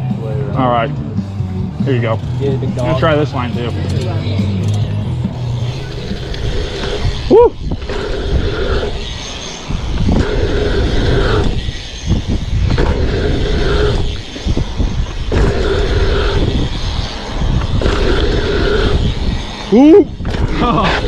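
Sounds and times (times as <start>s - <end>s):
bike hub buzzing: 0.0s - 21.0s
wind: 0.0s - 21.0s.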